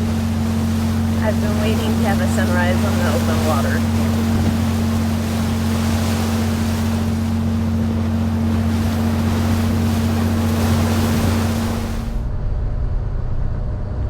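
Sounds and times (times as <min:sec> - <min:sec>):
wind and water rushing: 0:00.0 - 0:12.3
diesel engine droning: 0:00.0 - 0:14.0.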